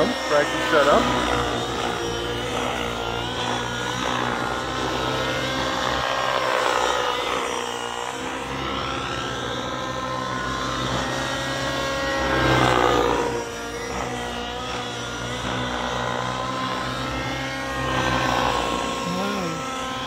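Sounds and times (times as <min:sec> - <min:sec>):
model helicopter engine whine: 0:00.0 - 0:20.0.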